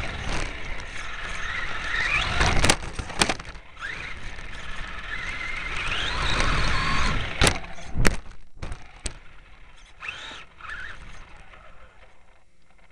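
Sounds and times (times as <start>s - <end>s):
toy truck motor whine: 0.0s - 8.0s, 8.7s - 12.9s.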